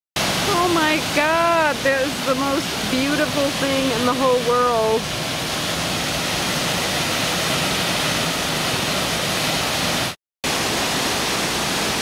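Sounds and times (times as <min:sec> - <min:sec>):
waterfall rushing: 0:00.2 - 0:12.0.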